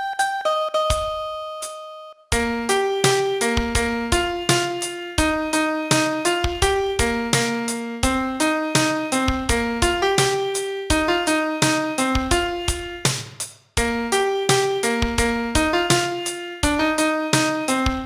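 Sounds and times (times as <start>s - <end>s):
piano melody: 0.0s - 13.1s, 13.8s - 18.0s.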